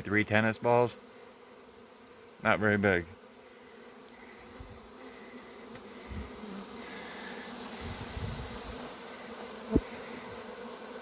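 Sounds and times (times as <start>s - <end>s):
bee swarm buzzing: 0.0s - 11.0s.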